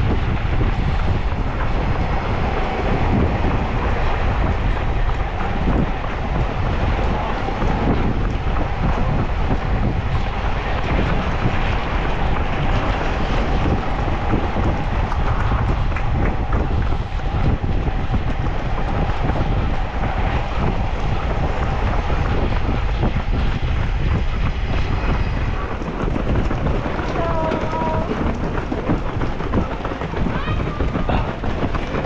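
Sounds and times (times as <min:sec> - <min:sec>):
wind blowing across microphone: 0:00.0 - 0:32.0.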